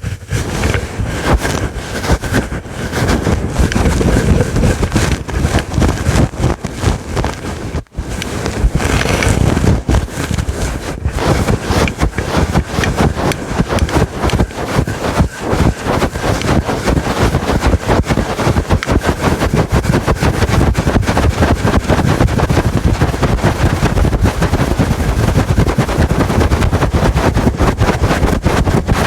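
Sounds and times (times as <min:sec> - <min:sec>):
scratching on furry windscreen: 0:00.0 - 0:29.0.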